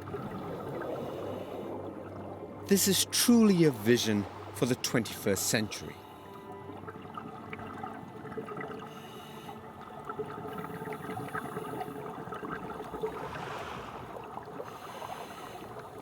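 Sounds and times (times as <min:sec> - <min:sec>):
faint steady tones: 0:00.0 - 0:16.0
water bubbling and gurgling: 0:00.0 - 0:16.0.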